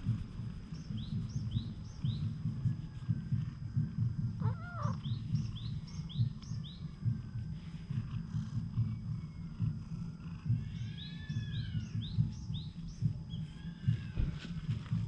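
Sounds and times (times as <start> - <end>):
low rumble near microphone: 0.0 - 15.0
small birds chirping: 0.0 - 15.0.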